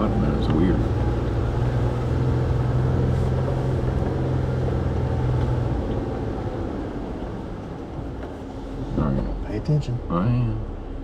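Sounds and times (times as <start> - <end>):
engine running under load: 0.0 - 9.4.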